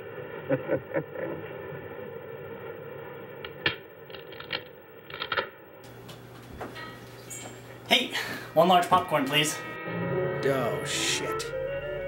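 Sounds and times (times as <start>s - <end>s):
steady film hum: 0.0s - 9.8s.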